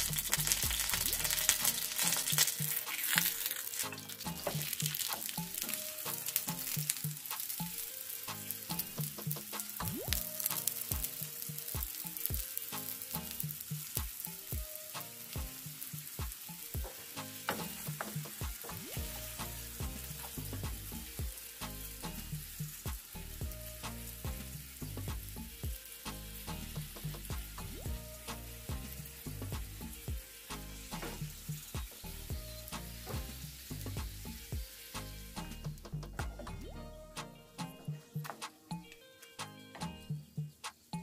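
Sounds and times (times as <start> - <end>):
pastry sizzling in oil: 0.0 - 35.9.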